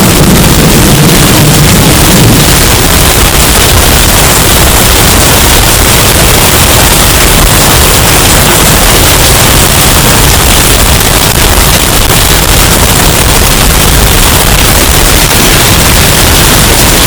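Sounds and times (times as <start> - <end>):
distorted hurricane wind: 0.0 - 17.0.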